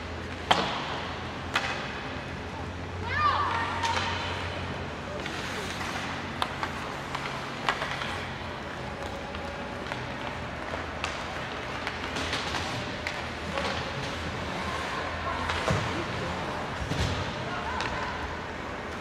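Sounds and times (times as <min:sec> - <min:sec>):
hockey sticks and puck clacking: 0:00.0 - 0:19.0
faint crowd voices: 0:01.9 - 0:19.0.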